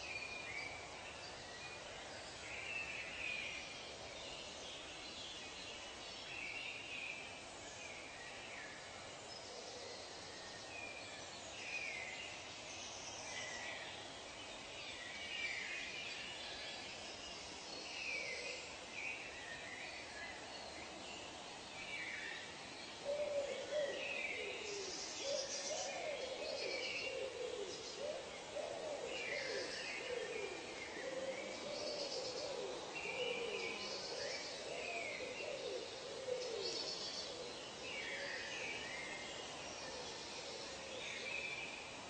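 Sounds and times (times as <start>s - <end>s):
faint steady hiss: 0.0s - 42.0s.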